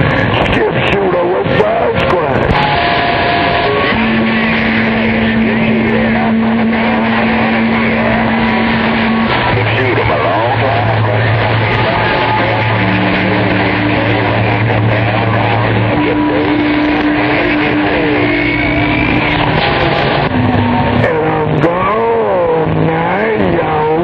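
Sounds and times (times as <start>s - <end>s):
carrier hum and whine: 0.0s - 24.0s
heterodyne tones: 0.0s - 24.0s
radio static hiss: 0.0s - 24.0s
warbling radio tone: 0.0s - 24.0s.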